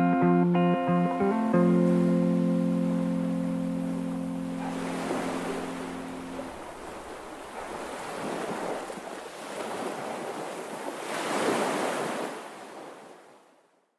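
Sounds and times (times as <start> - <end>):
sea waves washing on shore: 1.4 - 13.5.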